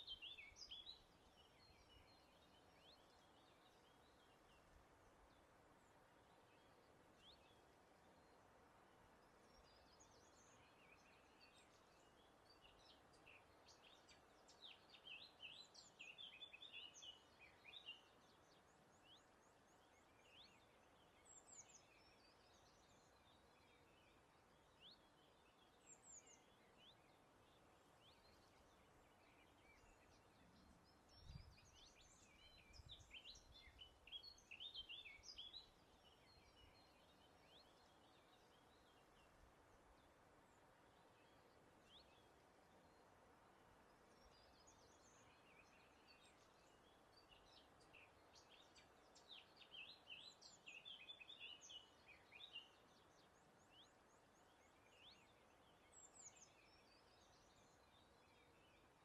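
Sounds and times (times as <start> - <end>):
small birds chirping and trilling: 0.0 - 59.0
soft breeze hiss: 0.0 - 59.0.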